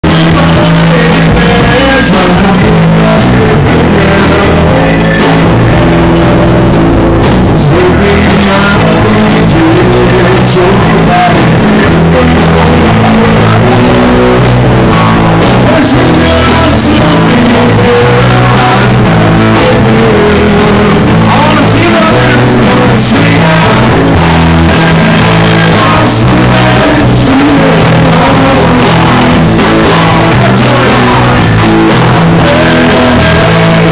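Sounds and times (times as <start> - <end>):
live rock band playing: 0.0 - 33.9
man singing into microphone: 0.0 - 33.9.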